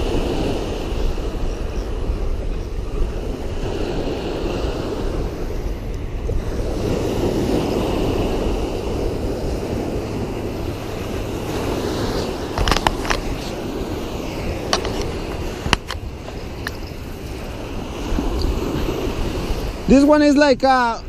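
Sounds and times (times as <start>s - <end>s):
small waves washing on shore: 0.0s - 21.0s
wind buffeting microphone: 0.0s - 21.0s.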